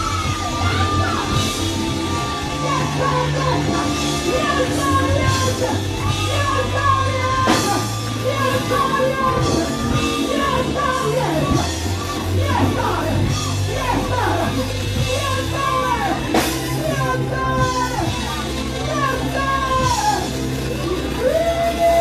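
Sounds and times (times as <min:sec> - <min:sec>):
gospel praise music: 0:00.0 - 0:22.0
voices singing and shouting: 0:00.0 - 0:22.0.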